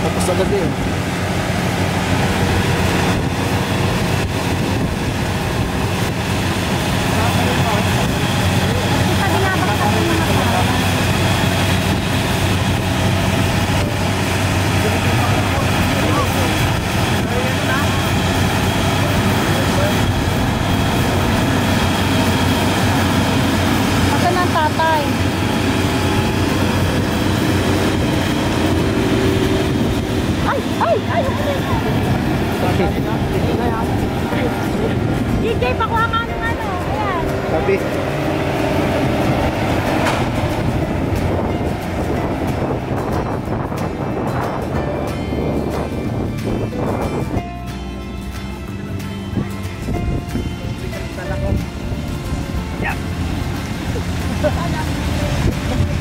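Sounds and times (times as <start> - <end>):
combine harvester droning: 0.0 - 56.0
steady machine hum: 0.0 - 56.0.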